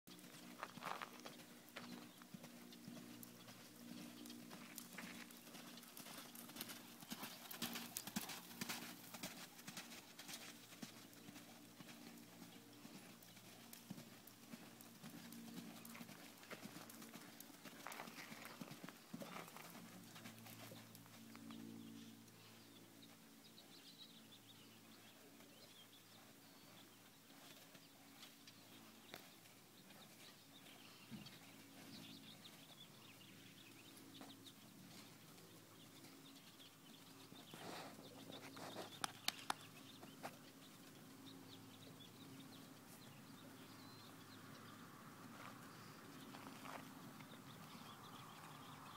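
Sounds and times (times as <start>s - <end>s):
hoofbeats on soft dirt: 0.1s - 48.9s
low steady hum: 0.1s - 48.9s.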